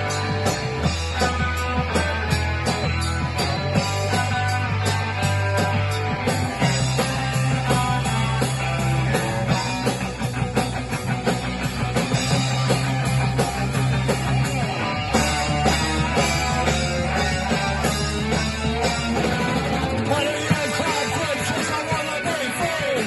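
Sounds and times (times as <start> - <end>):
punk rock band playing: 0.0 - 23.0.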